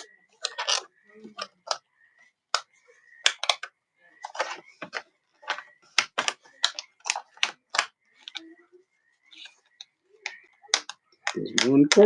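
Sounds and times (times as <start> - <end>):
plastic clips clicking and snapping: 0.0 - 1.9, 2.5 - 8.6, 9.3 - 12.0.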